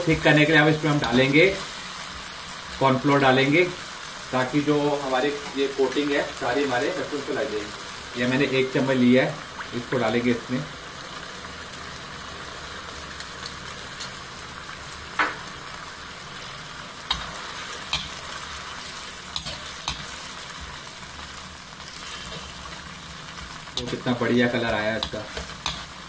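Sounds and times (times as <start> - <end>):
sauce sizzling in a metal pan: 0.0 - 26.0.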